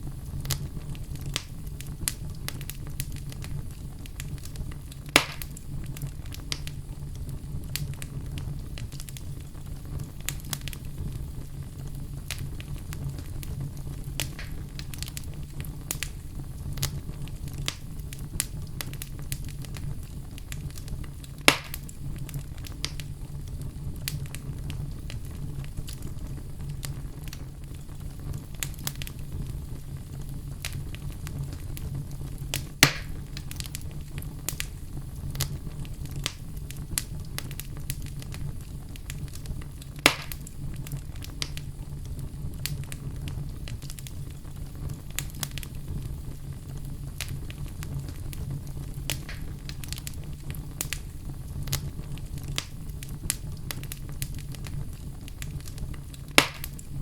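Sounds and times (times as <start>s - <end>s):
wood fire crackling: 0.0s - 57.0s
loud sharp fire pops: 0.2s - 57.0s.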